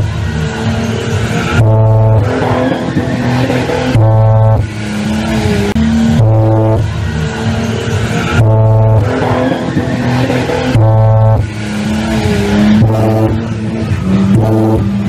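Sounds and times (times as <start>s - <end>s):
bass-heavy music from car speakers: 0.0s - 15.0s.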